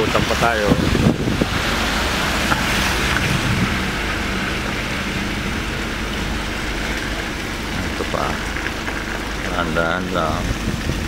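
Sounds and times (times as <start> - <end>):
wind noise on microphone: 0.0 - 6.5, 8.4 - 11.0
vehicle engine low hum: 0.0 - 11.0.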